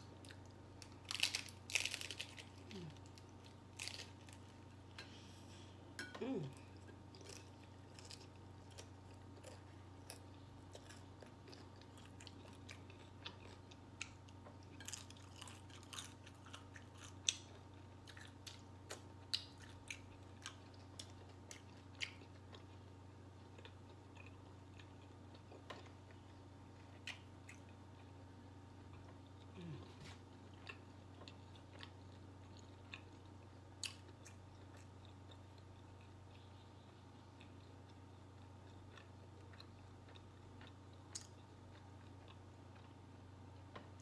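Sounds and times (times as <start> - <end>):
crunchy chewing: 6.6 - 43.0.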